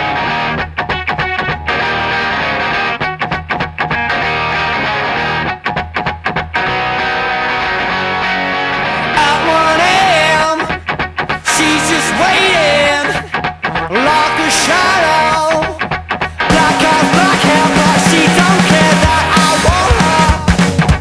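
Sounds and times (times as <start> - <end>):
rock music with distorted guitar: 0.0 - 21.0.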